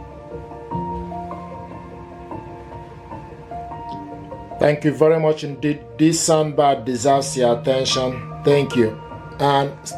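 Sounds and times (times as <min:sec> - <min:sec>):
instrumental music with held notes: 0:00.0 - 0:09.9.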